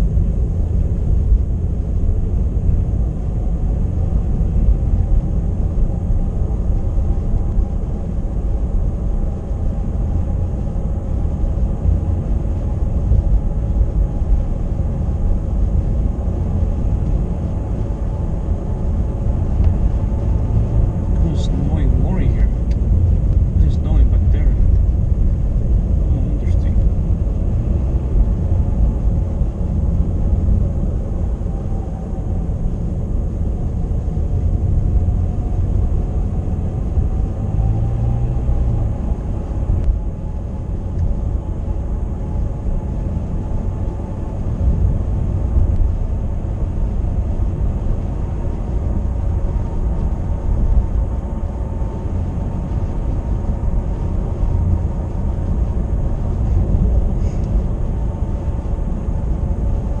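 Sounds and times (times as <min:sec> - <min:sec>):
car engine and tyre rumble: 0:00.0 - 1:00.0.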